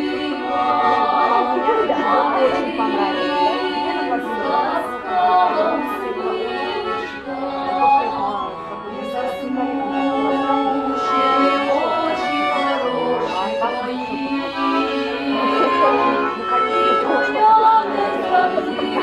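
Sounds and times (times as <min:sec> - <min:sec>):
accordion: 0:00.0 - 0:19.0
women singing folk song: 0:00.0 - 0:19.0.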